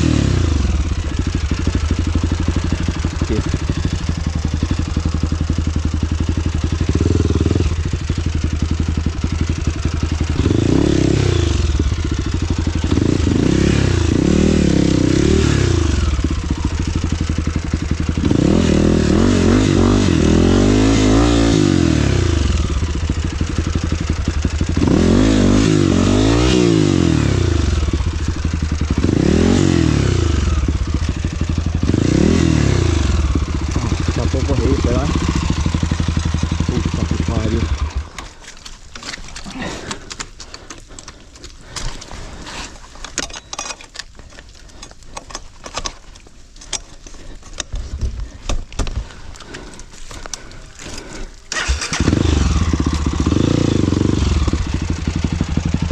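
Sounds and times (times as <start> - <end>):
motorcycle engine revving: 0.0 - 42.7, 46.7 - 55.9.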